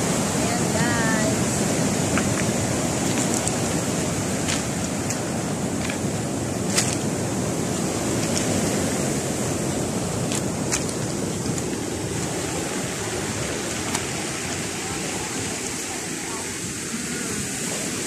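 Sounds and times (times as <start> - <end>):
sea surf breaking on pebbles: 0.0 - 18.0.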